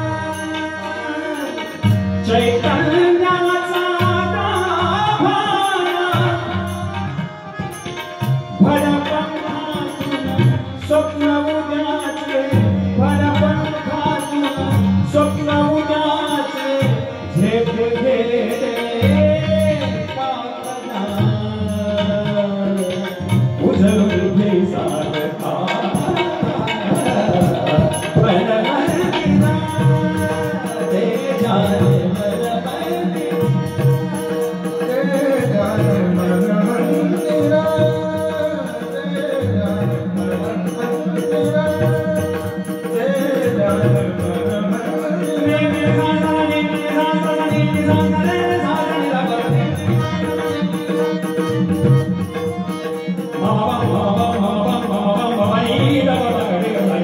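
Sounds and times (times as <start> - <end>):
harmonium: 0.0 - 57.0
man singing: 0.0 - 57.0
tabla: 0.0 - 57.0.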